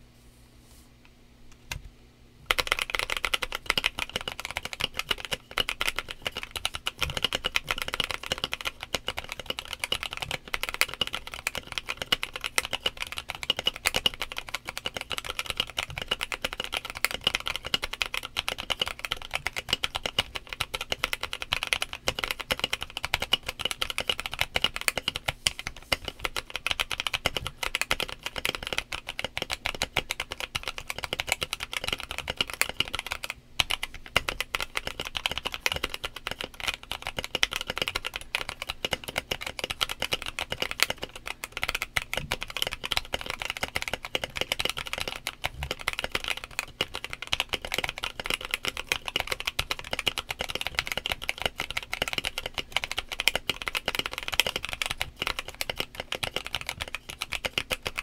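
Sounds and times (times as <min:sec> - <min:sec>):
mechanical keyboard typing: 0:02.5 - 0:58.0.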